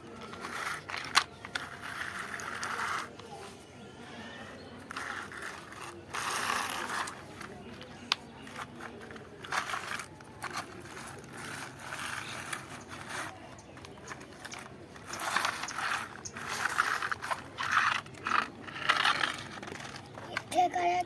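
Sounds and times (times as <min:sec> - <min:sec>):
plastic toy scraping and rattling: 0:00.0 - 0:21.0.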